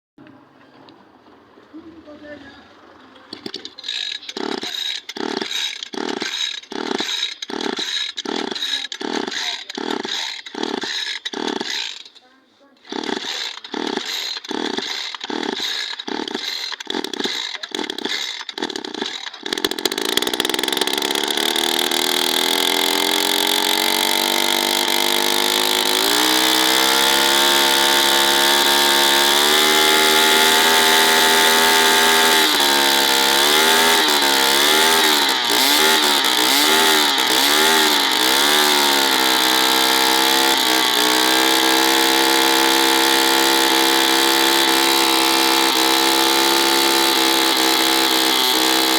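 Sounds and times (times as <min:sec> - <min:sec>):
small two-stroke engine revving: 0:00.2 - 0:48.9.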